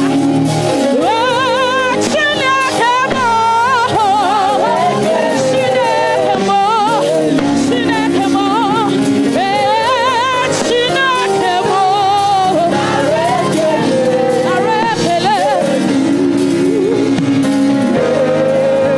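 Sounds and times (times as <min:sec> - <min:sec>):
band accompaniment: 0:00.0 - 0:18.9
person singing with vibrato: 0:00.0 - 0:18.9.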